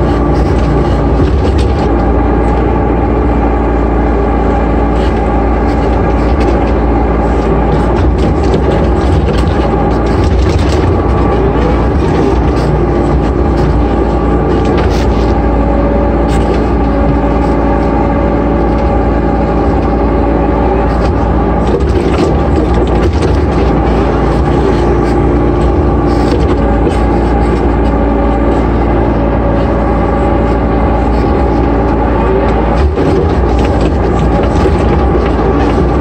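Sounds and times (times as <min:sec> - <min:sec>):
excavator diesel engine drone: 0:00.0 - 0:36.0
hydraulic whine: 0:00.0 - 0:36.0.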